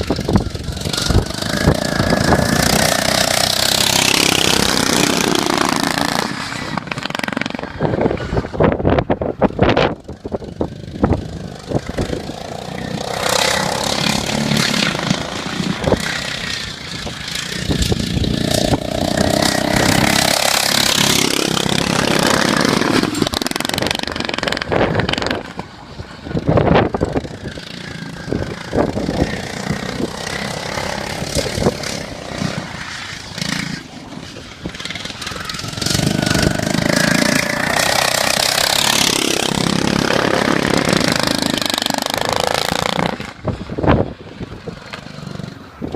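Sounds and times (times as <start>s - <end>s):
engine whine: 0.0s - 45.9s
racing lawn mower engines revving: 0.0s - 45.9s.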